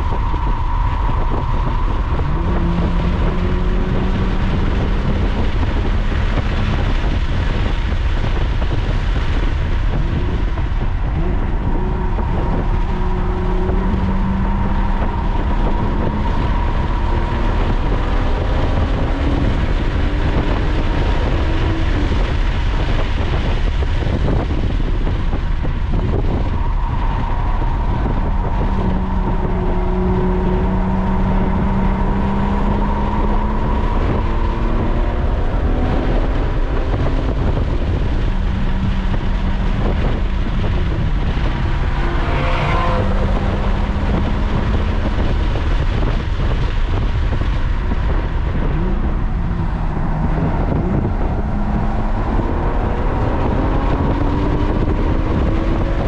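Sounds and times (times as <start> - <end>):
car engine running hard: 0.0 - 56.0
tyre and wind noise: 0.0 - 56.0.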